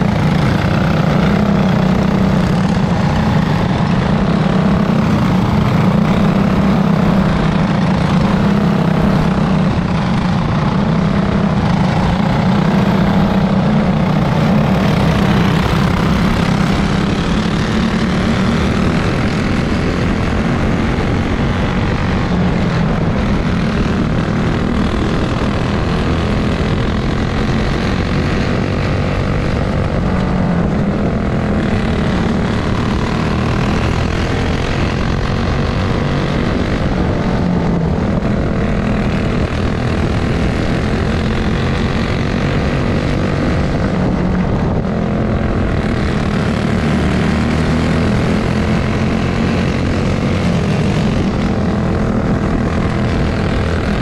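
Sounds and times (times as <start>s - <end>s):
close kart engine running hard: 0.0s - 54.0s
other kart engines: 0.0s - 54.0s.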